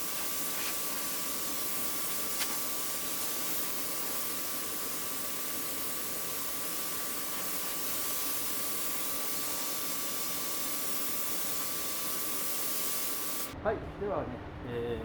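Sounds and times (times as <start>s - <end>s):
compressed air hissing: 0.0s - 13.6s.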